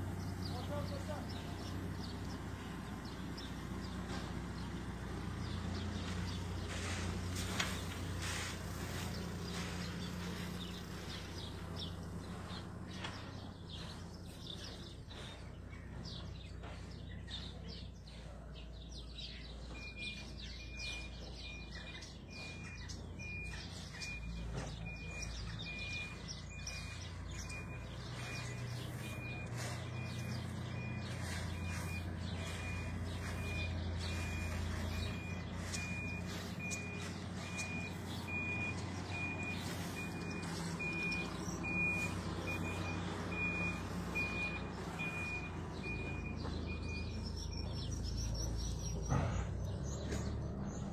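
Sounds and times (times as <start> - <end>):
low engine rumble: 0.0 - 50.9
small birds chirping: 0.0 - 50.9
vehicle reversing alarm beeps: 0.0 - 50.9.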